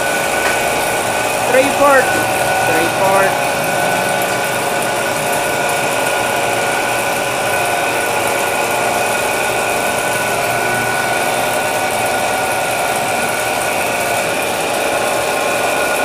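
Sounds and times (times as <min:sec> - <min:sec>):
dough roller machine whine: 0:00.0 - 0:16.0.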